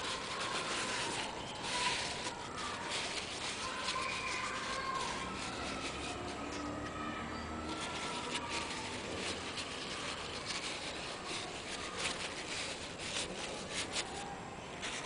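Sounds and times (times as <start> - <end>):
rag rubbing and scraping metal: 0.0 - 6.8, 7.6 - 14.2.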